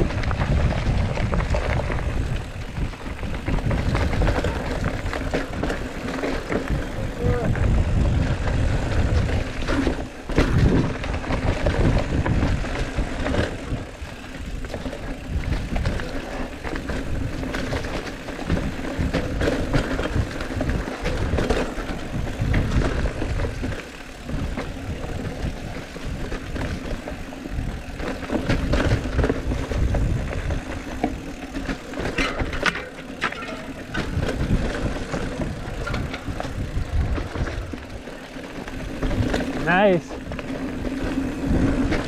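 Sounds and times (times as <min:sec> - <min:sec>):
bike rattling and knocking: 0:00.0 - 0:42.0
bike tyres rolling on dirt: 0:00.0 - 0:42.0
wind and ground rumble: 0:00.0 - 0:42.0.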